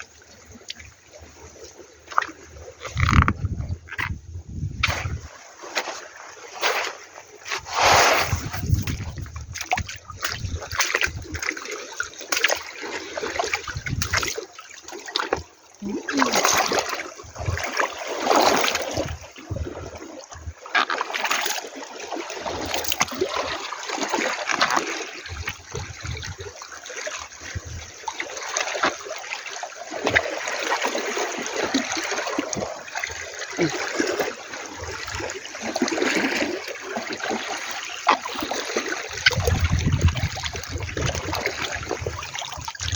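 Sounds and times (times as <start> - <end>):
seawater washing at shore: 0.0 - 42.9.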